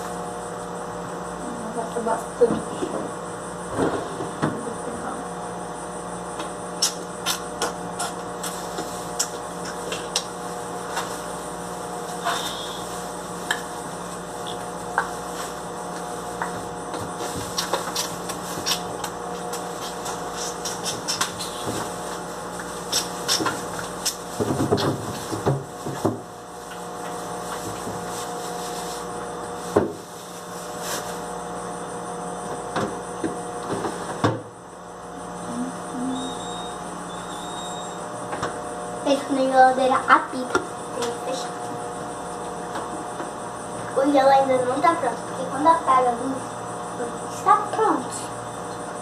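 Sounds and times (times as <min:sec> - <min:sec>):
refrigerator electrical hum: 0:00.0 - 0:49.0.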